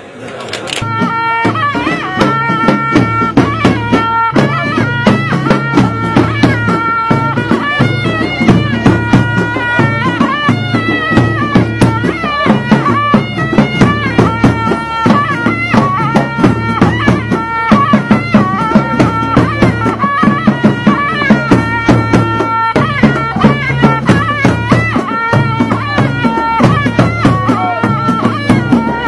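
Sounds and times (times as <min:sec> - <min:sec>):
steady drumming: 0:00.8 - 0:29.0.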